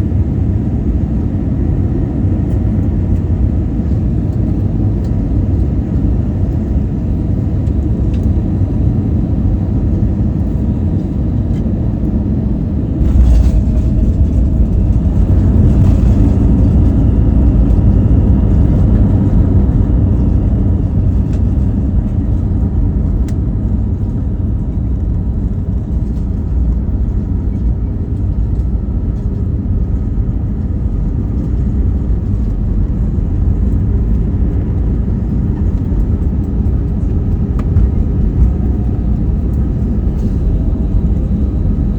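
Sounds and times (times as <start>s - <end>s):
jet engines rumbling in cabin: 0.0s - 41.9s.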